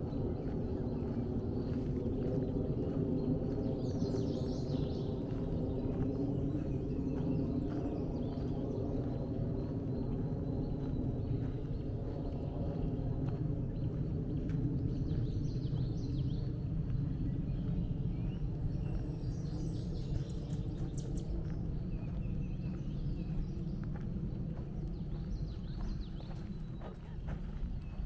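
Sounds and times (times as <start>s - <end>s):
low background rumble: 0.0s - 28.0s
songbirds chirping: 0.0s - 28.0s.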